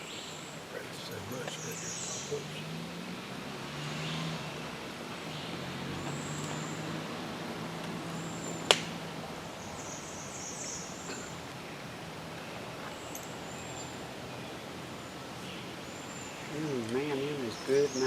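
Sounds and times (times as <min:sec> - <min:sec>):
distant vehicle engine hum: 0:00.0 - 0:18.0.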